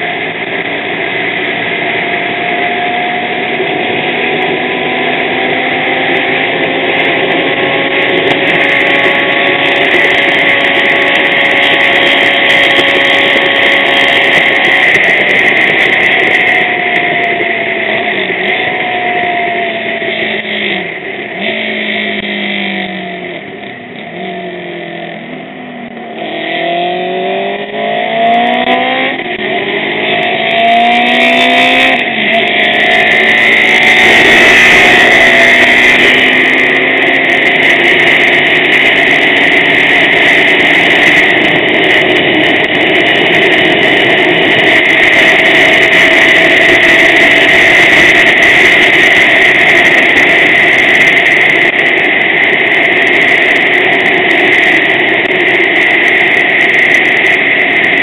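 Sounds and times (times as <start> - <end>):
loud rushing noise: 0.0 - 58.0
racing motorcycle engine: 0.0 - 58.0.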